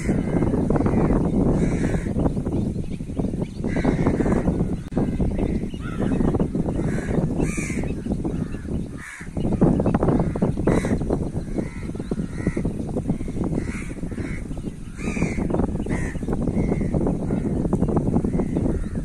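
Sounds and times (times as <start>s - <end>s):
crows cawing: 0.0s - 2.2s, 3.6s - 17.6s
constant low noise: 0.0s - 19.0s.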